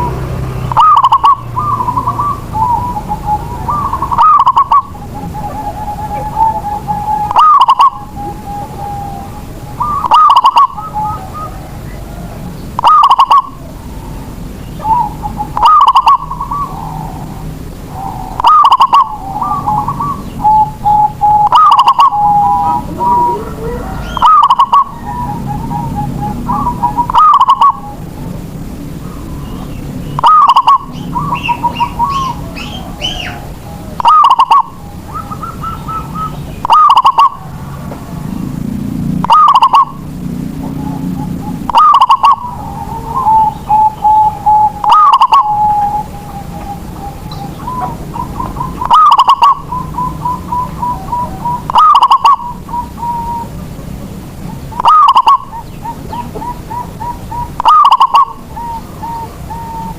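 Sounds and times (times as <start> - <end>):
dove cooing: 0.0 - 59.9
small birds chirping: 0.0 - 59.9.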